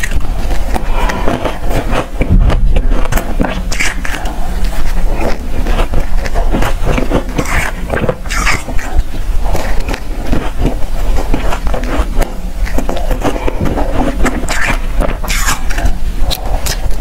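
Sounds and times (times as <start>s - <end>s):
chewing crunchy ice: 0.0s - 17.0s.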